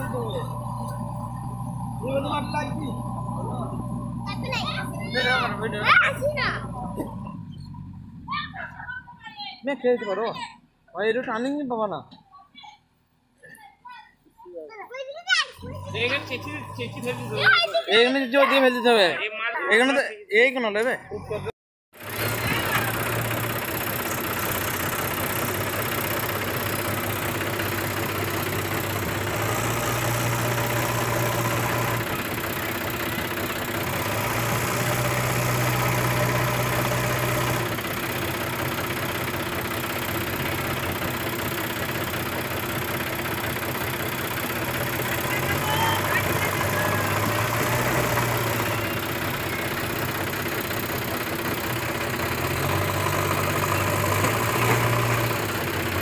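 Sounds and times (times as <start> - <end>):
diesel engine running under load: 0.0 - 9.6, 15.5 - 19.2, 21.0 - 56.0.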